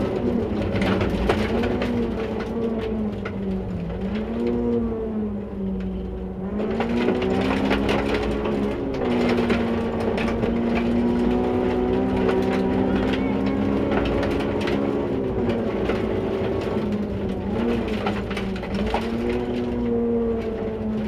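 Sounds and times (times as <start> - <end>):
gravel clattering against car: 0.0 - 5.0, 5.6 - 21.0
gear change: 0.0 - 21.0
rally car engine: 0.0 - 21.0.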